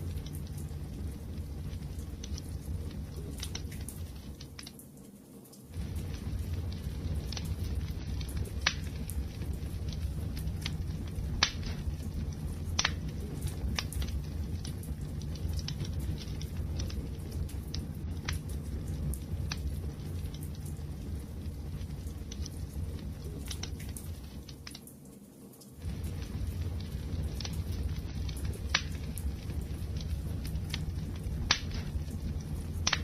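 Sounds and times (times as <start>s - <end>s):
wood fire rumbling: 0.0s - 4.8s, 5.6s - 25.1s, 25.8s - 33.0s
burning wood crackling and popping: 0.0s - 33.0s.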